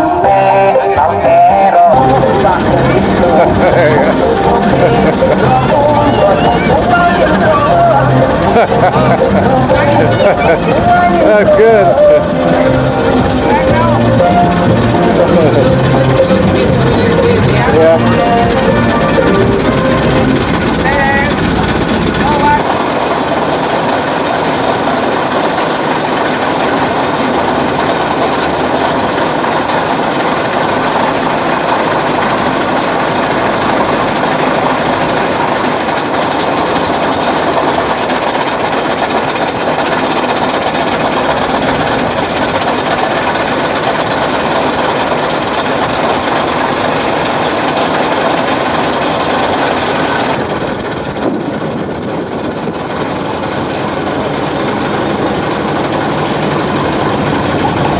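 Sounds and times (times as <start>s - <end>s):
boat engine droning: 0.0s - 57.9s.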